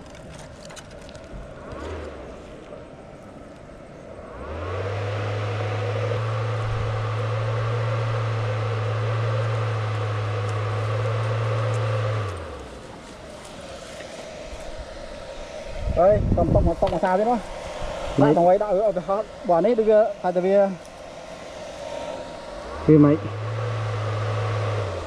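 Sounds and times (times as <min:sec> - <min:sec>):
motor humming: 0:04.1 - 0:25.0.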